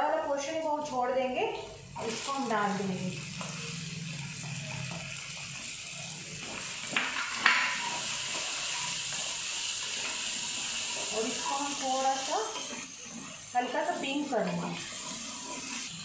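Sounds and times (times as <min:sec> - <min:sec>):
onions sizzling in hot oil: 0:00.1 - 0:16.0
spatula stirring in a pan: 0:02.0 - 0:16.0.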